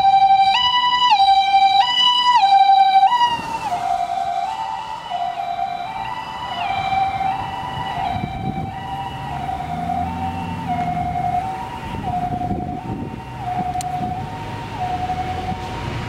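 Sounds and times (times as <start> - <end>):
two-tone ambulance siren passing: 0.0 - 16.0.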